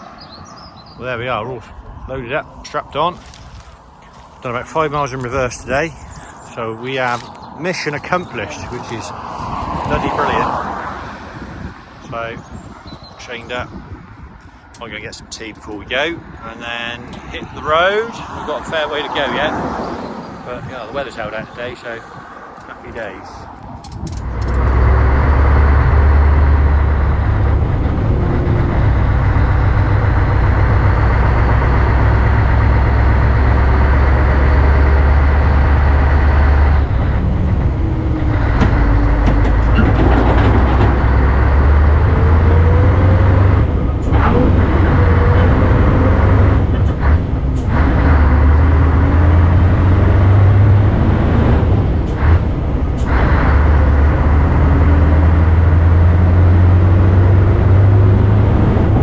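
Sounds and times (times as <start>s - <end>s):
lorry engine drone: 0.0s - 59.0s
road rumble: 0.0s - 59.0s.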